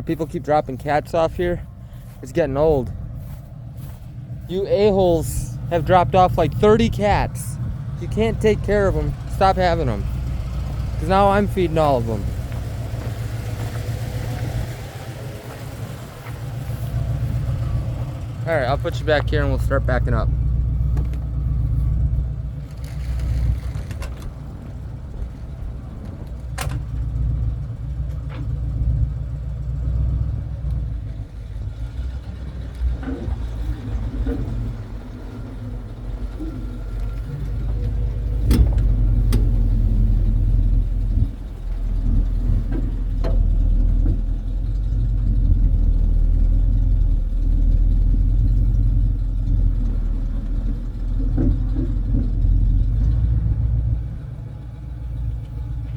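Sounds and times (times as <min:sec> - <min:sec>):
truck engine rumbling: 0:00.0 - 0:55.9.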